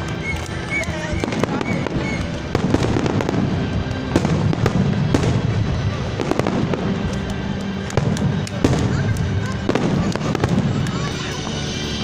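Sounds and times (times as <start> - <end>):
fireworks pops and bangs: 0.0 - 12.0.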